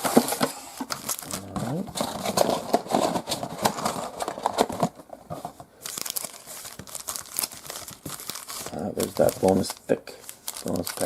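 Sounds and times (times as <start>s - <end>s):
plastic wrappers crinkling: 0.0s - 11.0s.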